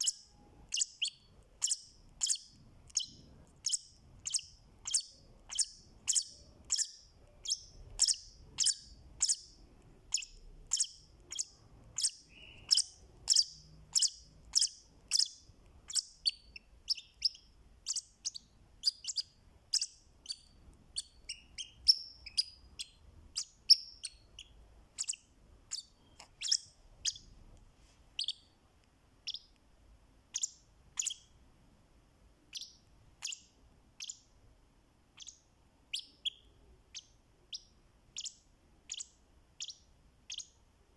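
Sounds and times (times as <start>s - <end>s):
lovebird chirping: 0.0s - 27.5s, 28.2s - 28.6s, 29.2s - 29.6s, 30.3s - 31.4s, 32.4s - 34.4s, 35.1s - 40.9s.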